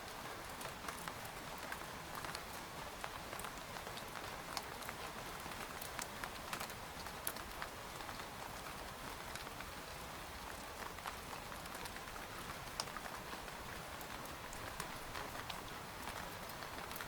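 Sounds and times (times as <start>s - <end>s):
rain hissing on a tent: 0.0s - 17.0s.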